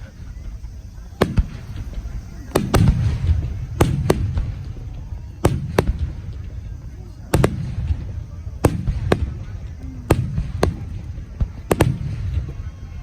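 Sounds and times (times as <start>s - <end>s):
fireworks bursting: 0.0s - 13.0s
low rumbling echo: 0.0s - 13.0s.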